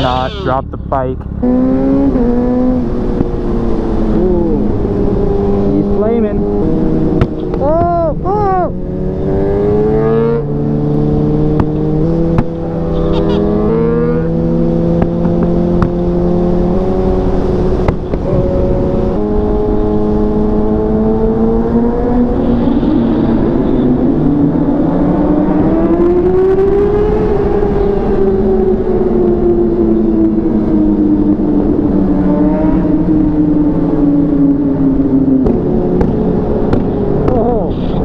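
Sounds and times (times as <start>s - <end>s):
wind noise: 0.0s - 38.0s.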